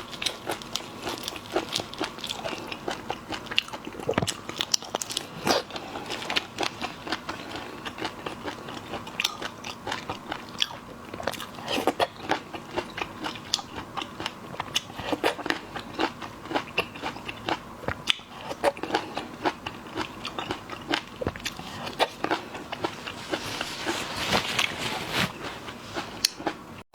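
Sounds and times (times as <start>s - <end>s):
crunching and chewing seafood: 0.0s - 26.8s.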